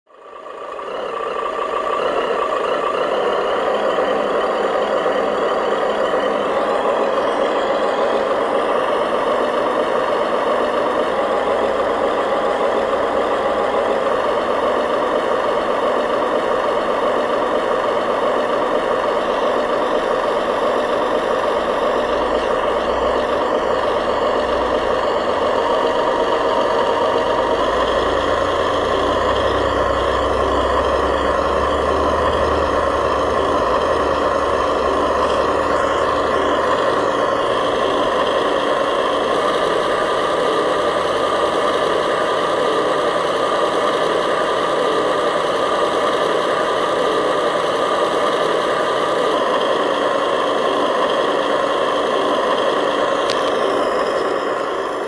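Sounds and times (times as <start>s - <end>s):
diesel truck engine running: 0.1s - 55.0s.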